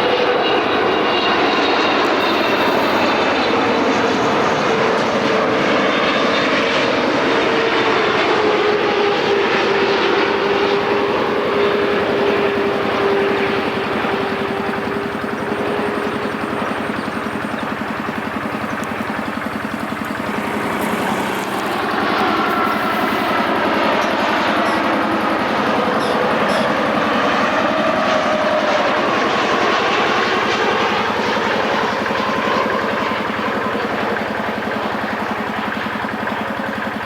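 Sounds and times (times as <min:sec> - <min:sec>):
jet airliner engines: 0:00.0 - 0:37.0.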